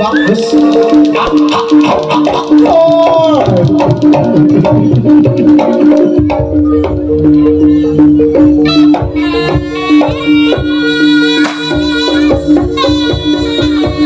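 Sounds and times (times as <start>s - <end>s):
hand drum strokes: 0.4s - 14.0s.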